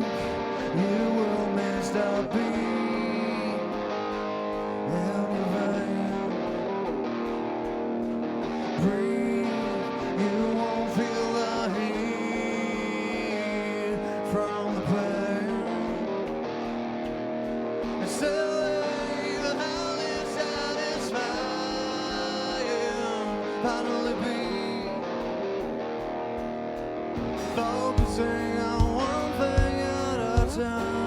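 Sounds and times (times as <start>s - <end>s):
person singing: 0.0s - 25.7s, 27.2s - 31.0s
drums: 0.0s - 31.0s
guitars: 0.0s - 31.0s.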